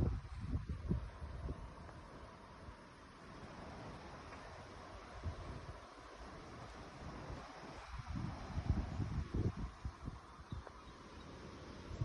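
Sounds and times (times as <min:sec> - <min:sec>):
wind buffeting microphone: 0:00.0 - 0:02.1, 0:03.3 - 0:12.0.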